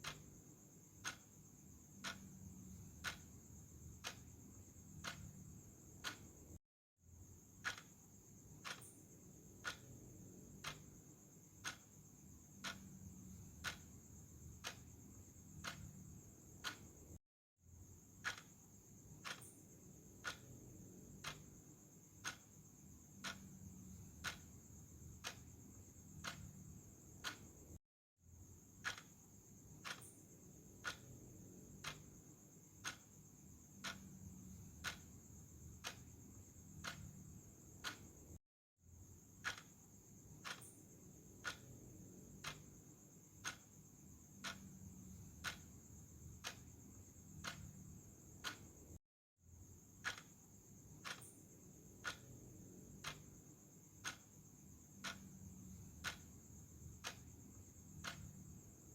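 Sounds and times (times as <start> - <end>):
clock ticking: 0.0 - 6.6, 7.6 - 17.2, 18.1 - 27.8, 28.8 - 38.3, 39.4 - 48.9, 50.0 - 58.9.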